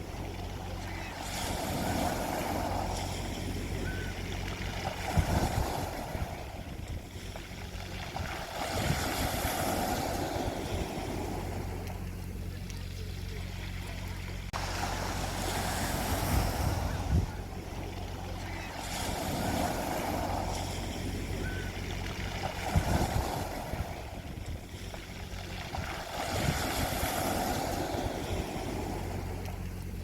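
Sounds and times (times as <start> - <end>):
wind buffeting microphone: 0.0 - 12.5, 14.6 - 30.0
sea waves washing onto beach: 0.0 - 30.0
steady low hum: 0.0 - 30.0.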